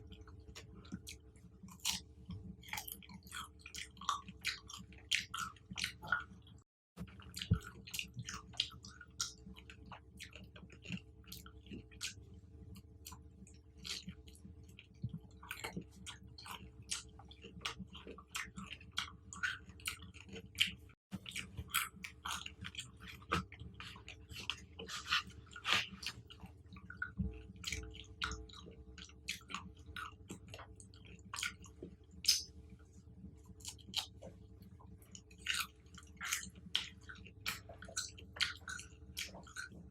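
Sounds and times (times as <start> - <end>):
chewing fruit crunches: 0.0 - 32.6, 33.4 - 39.9
steady low hum: 0.0 - 39.9.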